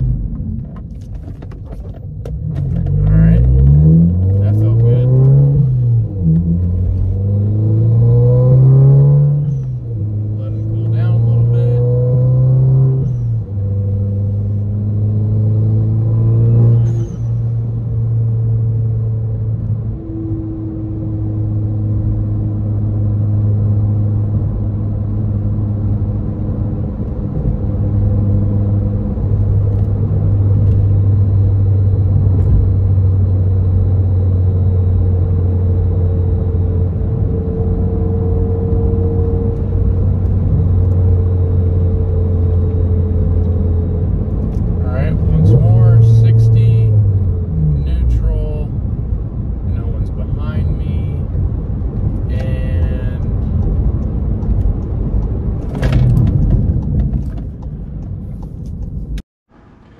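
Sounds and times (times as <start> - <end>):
tyre and road rumble: 0.0 - 18.9, 24.0 - 59.9
car engine accelerating through gears: 0.0 - 59.9.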